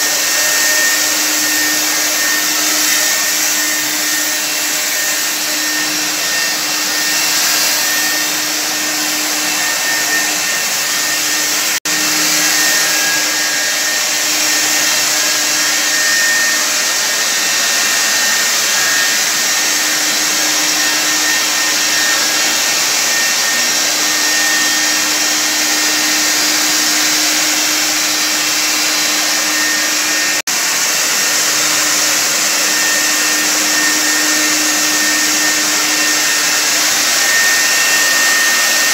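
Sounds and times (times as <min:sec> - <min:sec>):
fogger motor whine and hiss: 0:00.0 - 0:38.9.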